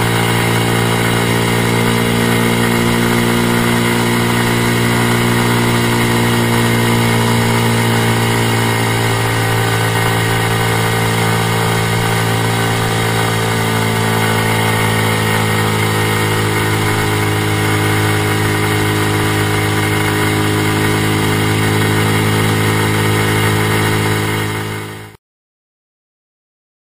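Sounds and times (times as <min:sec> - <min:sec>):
motorcycle engine running: 0:00.0 - 0:25.2.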